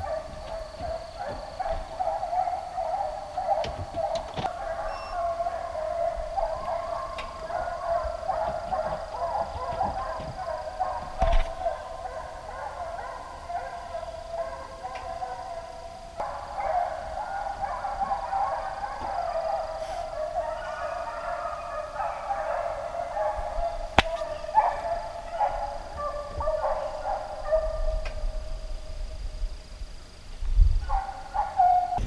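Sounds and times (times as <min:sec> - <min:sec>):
hounds baying: 0:00.0 - 0:29.4, 0:30.8 - 0:32.0.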